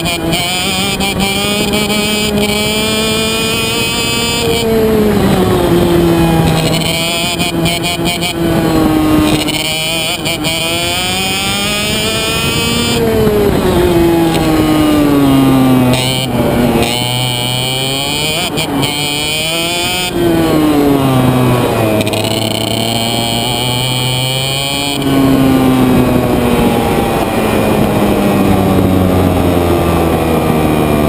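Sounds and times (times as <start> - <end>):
two-stroke kart engine racing: 0.0 - 31.0.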